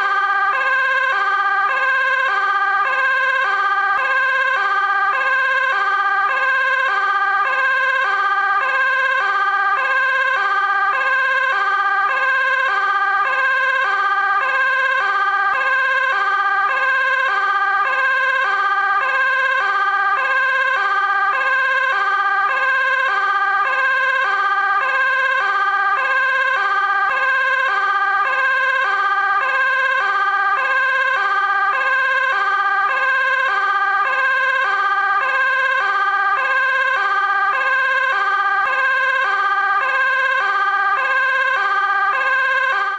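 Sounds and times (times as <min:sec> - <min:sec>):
fire engine two-tone siren: 0:00.0 - 0:42.9.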